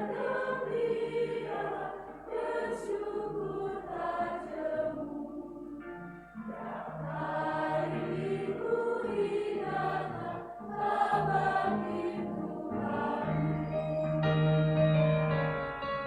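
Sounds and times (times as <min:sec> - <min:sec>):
choir singing a hymn: 0:00.0 - 0:14.8
keyboard accompaniment: 0:00.0 - 0:16.0.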